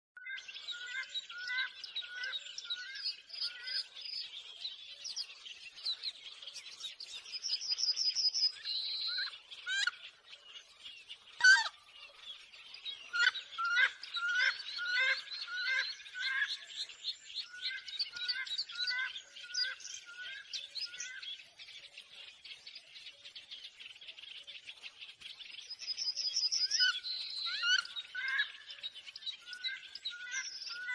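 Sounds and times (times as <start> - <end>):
birds chirping and singing: 0.2 - 30.9.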